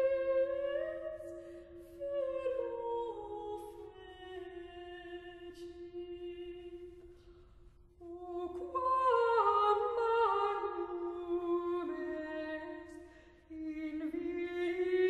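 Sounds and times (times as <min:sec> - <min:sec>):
slow vocal background music: 0:00.0 - 0:15.0.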